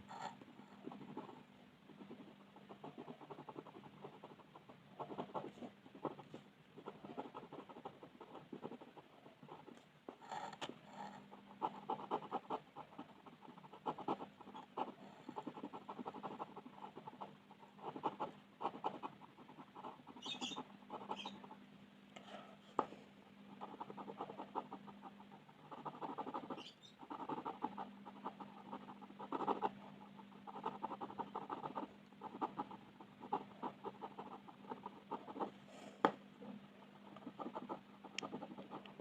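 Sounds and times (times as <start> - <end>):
coloring scratches on paper: 0.0 - 21.4, 23.6 - 36.0, 37.0 - 39.0
faint steady hum: 0.0 - 39.0.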